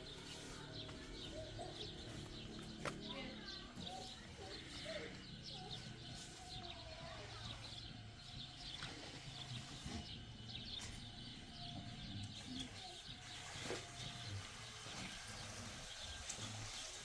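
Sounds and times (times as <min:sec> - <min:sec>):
birds chirping and twittering: 0:00.0 - 0:17.0.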